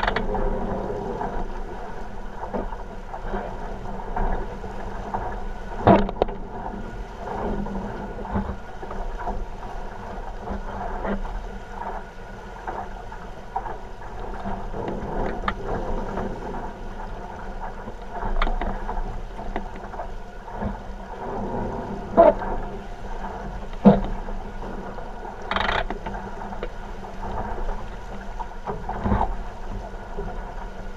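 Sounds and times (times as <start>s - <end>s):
hull slapping on waves: 0.0s - 30.9s
water rushing past hull: 0.0s - 30.9s.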